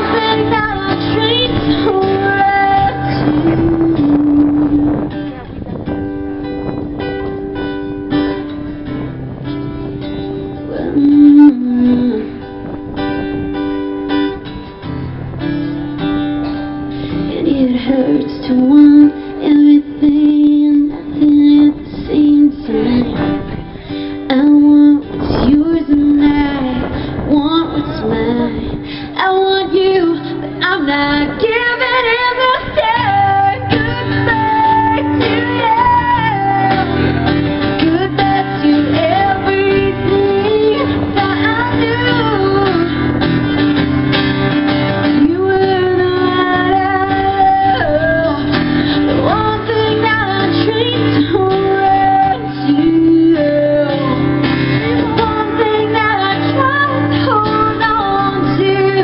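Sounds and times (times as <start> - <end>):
woman singing: 0.0 - 6.0, 10.4 - 13.4, 17.1 - 43.5, 44.9 - 59.0
acoustic guitar: 0.0 - 59.0.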